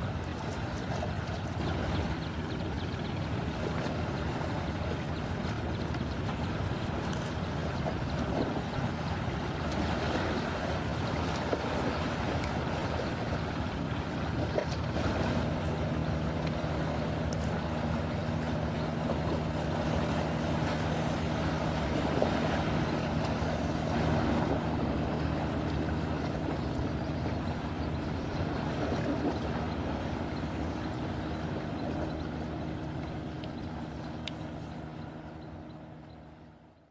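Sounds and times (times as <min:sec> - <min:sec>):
wind buffeting microphone: 0:00.0 - 0:35.5
waves on a shore: 0:00.0 - 0:36.8
steady low hum: 0:00.0 - 0:36.9.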